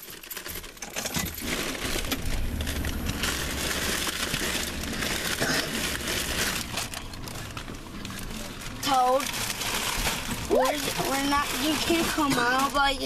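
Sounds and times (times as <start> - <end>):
chip bag crinkling: 0.0 - 13.0.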